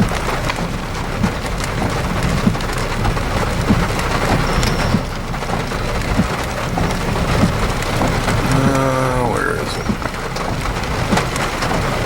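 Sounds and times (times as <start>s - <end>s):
heavy rain pouring: 0.0s - 12.0s
raindrops ticking: 0.0s - 12.0s.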